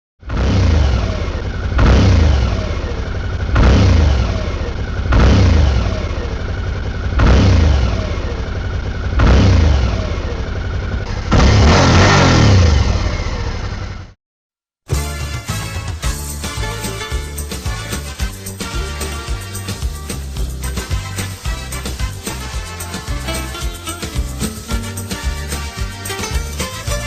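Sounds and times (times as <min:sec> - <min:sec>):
motorcycle engine revving: 0:00.2 - 0:14.2, 0:14.9 - 0:27.0.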